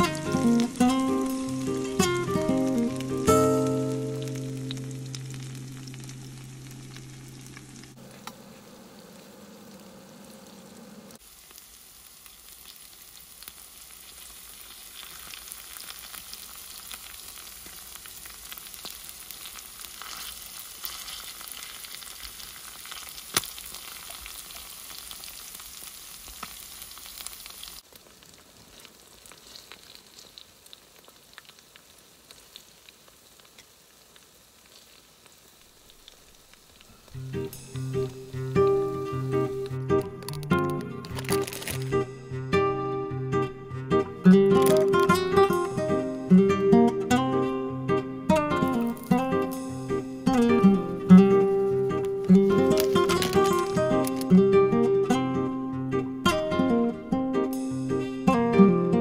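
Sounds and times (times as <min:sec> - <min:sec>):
batter sizzling in hot oil: 0:00.0 - 0:43.2, 0:43.8 - 0:54.6, 0:57.5 - 0:58.3
oil spattering crackles: 0:00.0 - 0:55.2.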